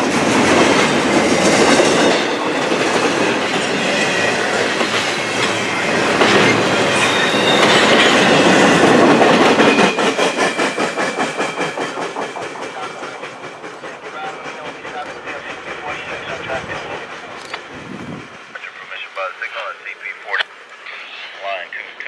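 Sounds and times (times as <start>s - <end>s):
clickety-clack over rail joints: 0.0s - 18.8s
steel wheels clattering on rail: 0.0s - 21.4s
freight train rumble: 0.0s - 22.0s.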